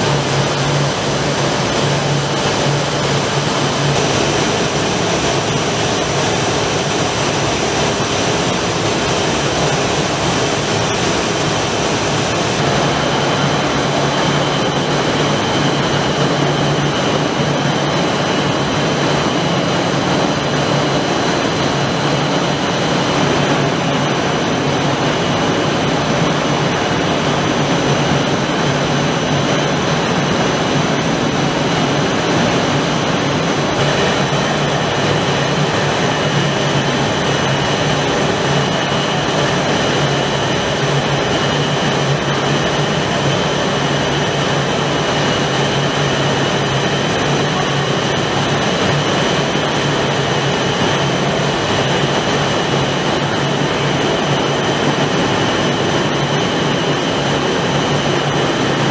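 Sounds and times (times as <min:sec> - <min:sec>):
whooshing machinery drone: 0:00.0 - 0:58.9.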